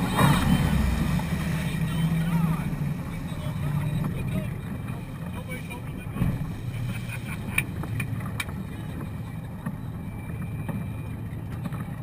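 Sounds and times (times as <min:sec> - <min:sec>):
motorboat engine rumbling: 0:00.0 - 0:12.0.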